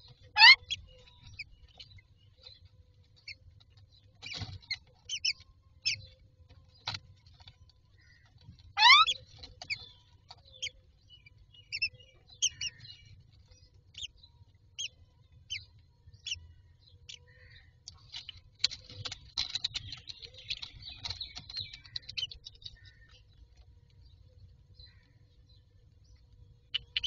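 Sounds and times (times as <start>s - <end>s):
chicks begging peeps: 0.0s - 7.6s, 8.2s - 24.1s, 25.3s - 27.0s.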